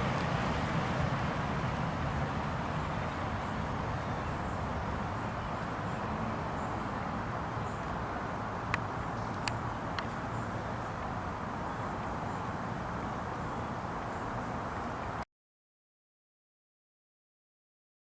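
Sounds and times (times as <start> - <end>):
street background rumble: 0.0 - 15.2.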